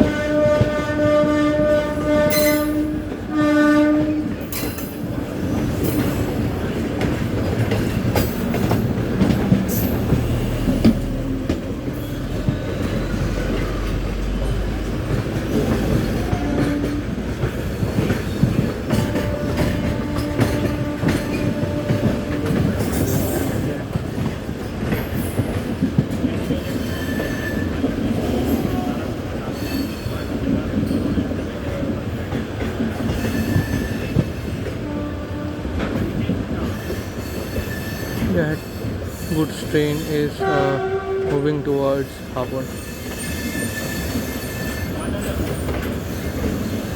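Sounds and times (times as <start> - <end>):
train wheels clattering over rail joints: 0.0 - 46.9
wheels squealing on rail: 1.6 - 6.8, 7.4 - 23.9, 24.9 - 31.6, 32.7 - 35.1, 35.7 - 46.9.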